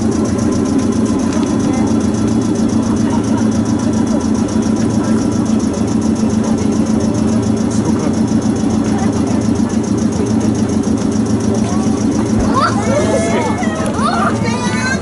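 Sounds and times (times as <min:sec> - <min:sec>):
high-pitched pulsing: 0:00.0 - 0:15.0
vehicle engine idling: 0:00.0 - 0:15.0.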